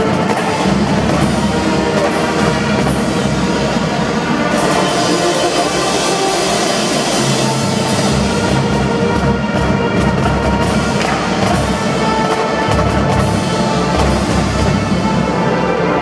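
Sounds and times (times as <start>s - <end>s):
marching drum band playing: 0.0s - 16.0s.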